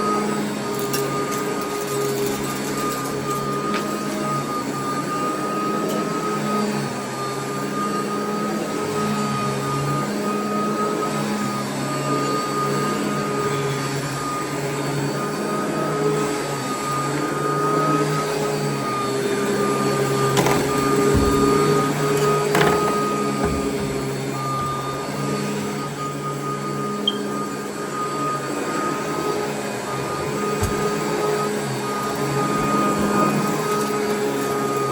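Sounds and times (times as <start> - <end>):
vacuum cleaner motor hum: 0.0 - 34.9.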